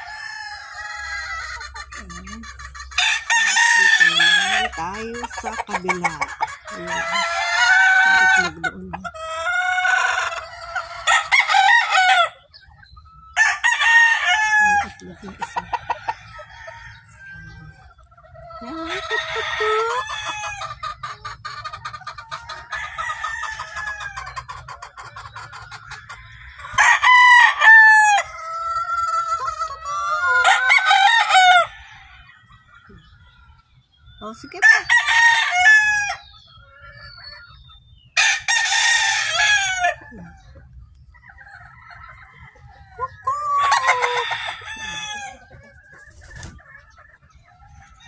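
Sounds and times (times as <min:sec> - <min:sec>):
hens clucking: 0:00.0 - 0:48.0
roosters crowing: 0:00.0 - 0:48.0.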